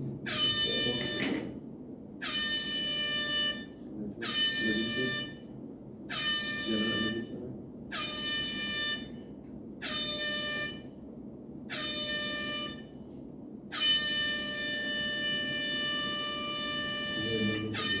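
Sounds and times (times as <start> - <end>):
alarm horn blasts: 0.2 - 1.6, 2.2 - 11.0, 11.7 - 18.0.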